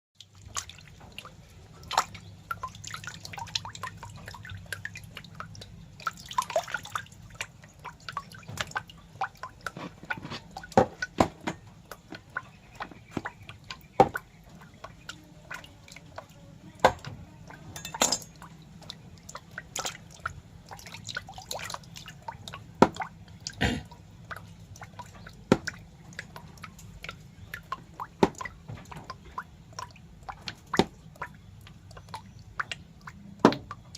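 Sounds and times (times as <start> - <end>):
small wet clicks or drips: 0.2 - 33.9.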